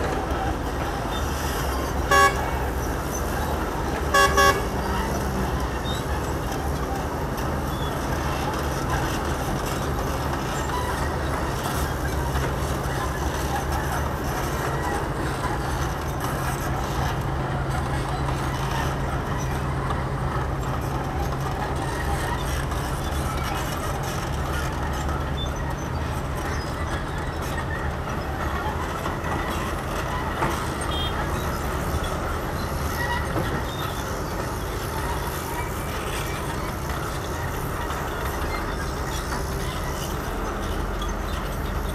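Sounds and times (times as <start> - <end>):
heavy diesel engines droning: 0.0 - 41.9.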